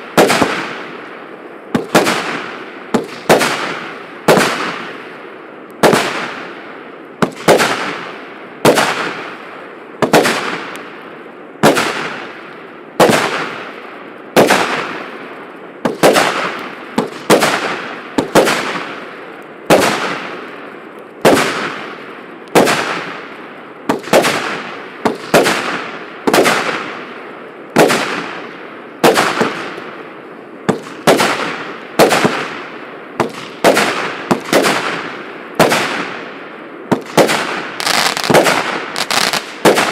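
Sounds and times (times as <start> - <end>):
firework bangs: 0.0 - 11.0, 11.6 - 39.9.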